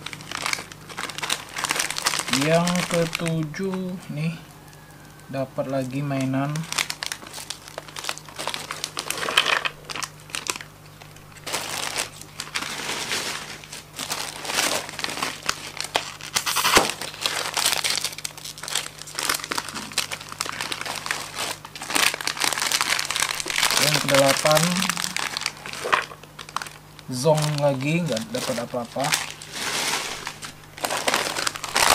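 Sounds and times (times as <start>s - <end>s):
plastic wrappers crinkling: 0.0s - 31.9s.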